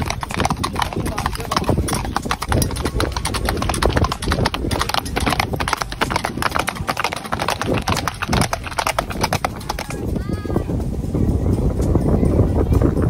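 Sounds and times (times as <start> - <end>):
horse hooves on asphalt: 0.0 - 13.0.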